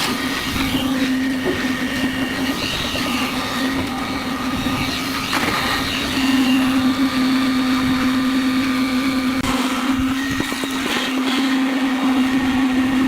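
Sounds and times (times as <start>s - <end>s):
concrete mixer running: 0.0s - 13.0s.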